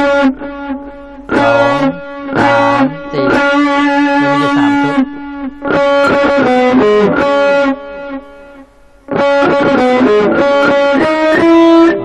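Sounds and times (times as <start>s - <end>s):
distorted electric guitar lead: 0.0s - 12.0s.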